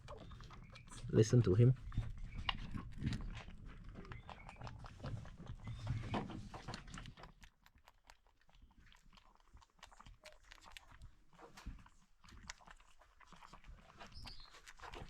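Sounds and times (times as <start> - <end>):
goat kid suckling: 0.0 - 15.0.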